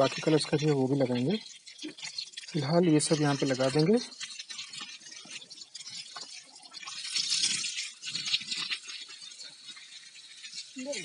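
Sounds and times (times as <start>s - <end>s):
crackling of soaking soil: 0.0s - 11.0s
water poured onto soil: 0.0s - 11.0s.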